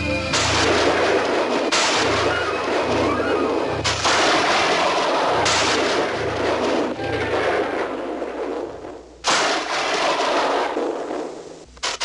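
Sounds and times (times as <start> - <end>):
thunder cracks: 0.3 - 11.5.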